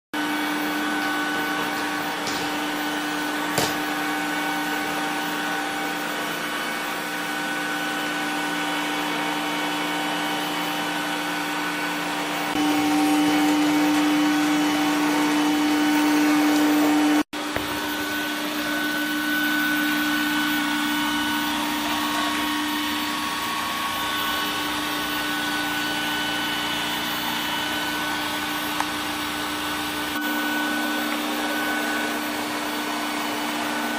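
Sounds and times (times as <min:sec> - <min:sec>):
robot vacuum running: 0:00.2 - 0:33.9.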